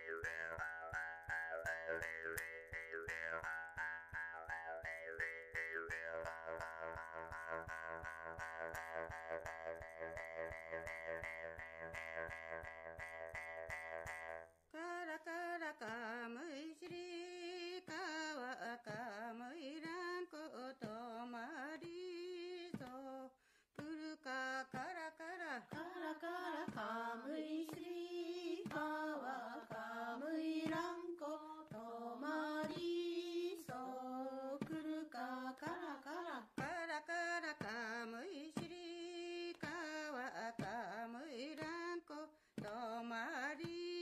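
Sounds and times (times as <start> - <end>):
person singing unaccompanied: 0.0 - 44.0.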